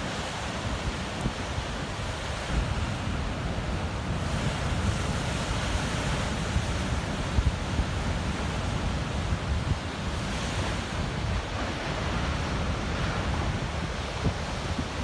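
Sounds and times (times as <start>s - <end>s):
surf breaking on rocky shore: 0.0s - 15.0s
wind buffeting microphone: 0.0s - 15.0s.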